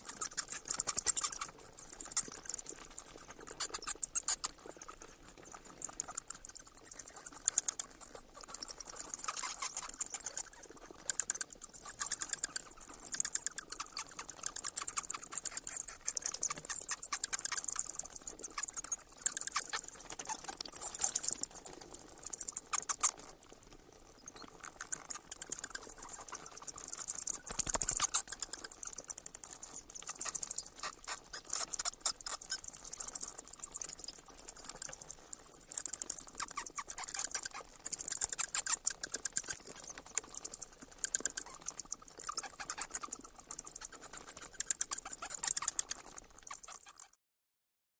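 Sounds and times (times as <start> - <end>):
bats squeaking and chittering: 0.0 - 47.2.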